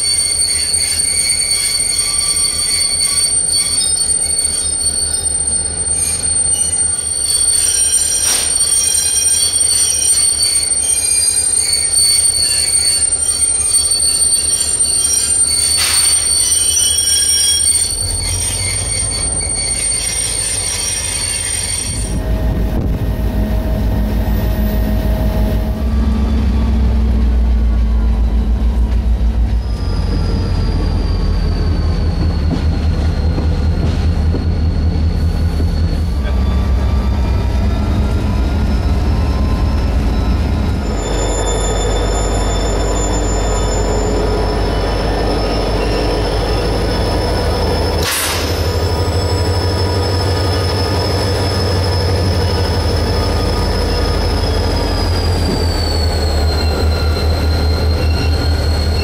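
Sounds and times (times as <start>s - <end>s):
steel wheels squealing: 0.0s - 59.0s
train rumbling: 0.0s - 59.0s.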